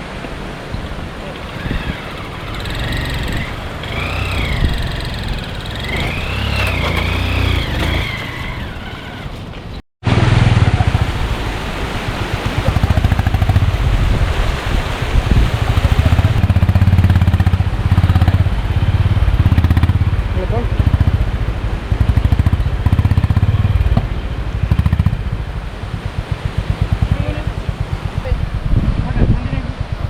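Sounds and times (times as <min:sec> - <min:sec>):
motorcycle engine running: 0:01.0 - 0:30.0.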